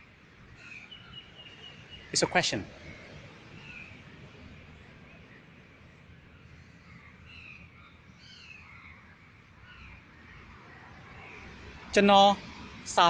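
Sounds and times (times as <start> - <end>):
birds chirping: 0.6 - 12.3.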